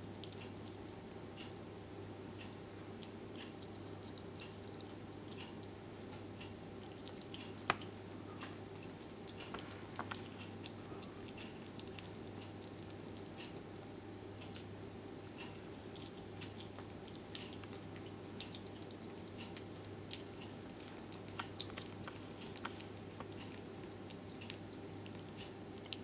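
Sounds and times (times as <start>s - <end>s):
wet chewing clicks and smacks: 0.0s - 1.5s, 2.4s - 26.0s
steady low hum: 0.0s - 26.0s.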